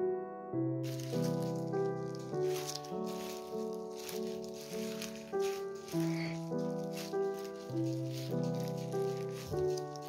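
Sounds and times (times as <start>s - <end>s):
solo piano music: 0.0s - 10.0s.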